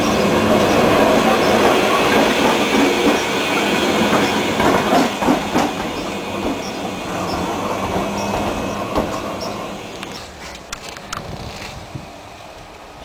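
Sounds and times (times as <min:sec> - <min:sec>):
train wheels clattering over joints: 0:00.0 - 0:11.8.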